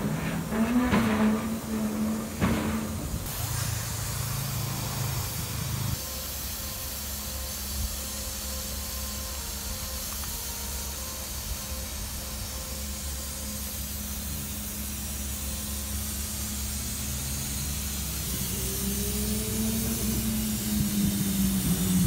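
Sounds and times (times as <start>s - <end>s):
locomotive hissing: 0.0s - 22.0s.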